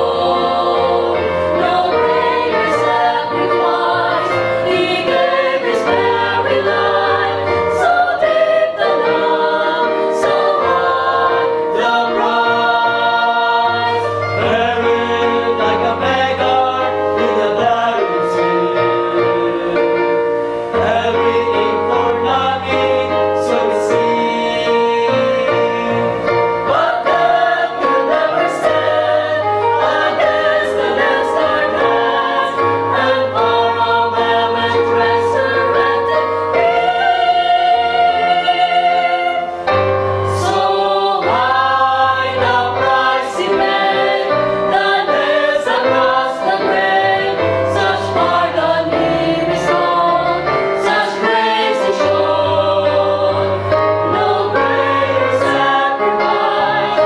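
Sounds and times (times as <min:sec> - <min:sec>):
instrumental accompaniment: 0:00.0 - 0:57.0
youth choir singing gospel: 0:00.0 - 0:57.0.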